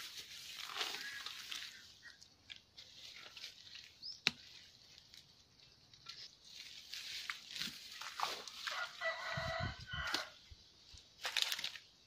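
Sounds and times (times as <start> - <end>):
hands rustling mud and leaves: 0.0 - 12.0.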